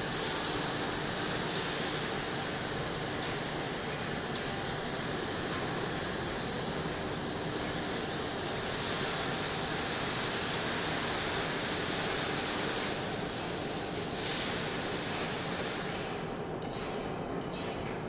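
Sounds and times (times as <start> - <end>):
workshop hiss: 0.0 - 16.4.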